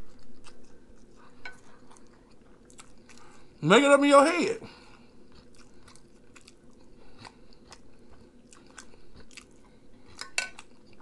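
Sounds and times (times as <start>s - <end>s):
person chewing food: 0.0s - 3.6s, 4.7s - 11.0s.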